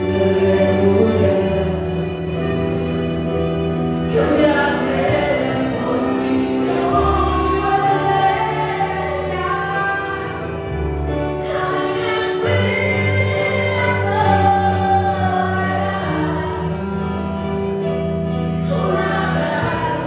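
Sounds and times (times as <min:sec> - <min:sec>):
woman singing: 0:00.0 - 0:02.6, 0:04.0 - 0:17.5, 0:18.5 - 0:20.0
bowed violin: 0:00.0 - 0:20.0
keyboard: 0:00.0 - 0:20.0.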